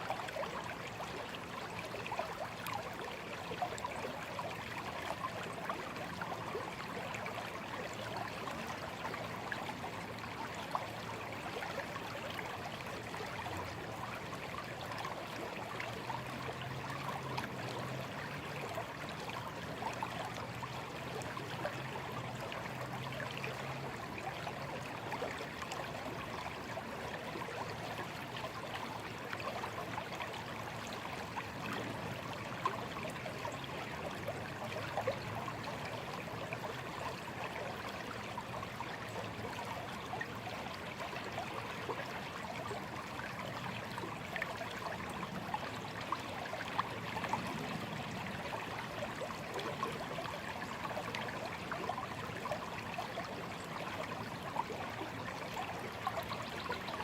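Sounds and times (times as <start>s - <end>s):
stream trickling and gurgling: 0.0s - 57.0s.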